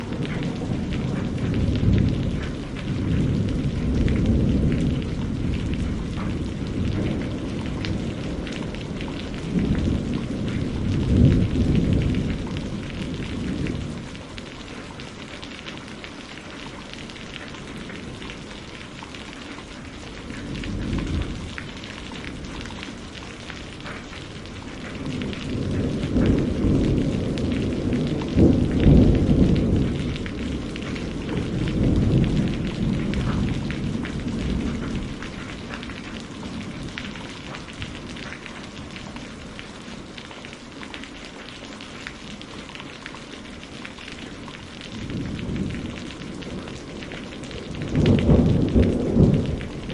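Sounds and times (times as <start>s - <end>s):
rolling thunder: 0.0s - 15.2s, 19.8s - 39.8s, 44.2s - 49.9s
steady rain: 0.0s - 49.9s.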